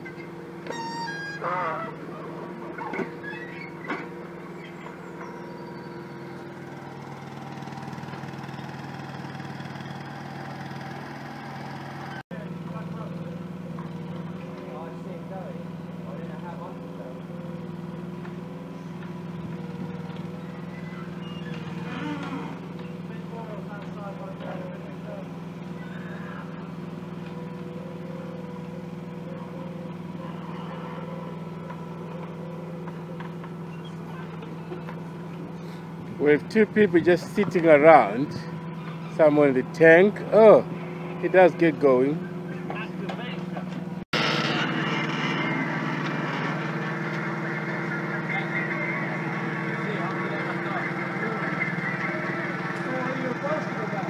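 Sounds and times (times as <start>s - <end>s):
small diesel engine idling: 0.0s - 54.0s.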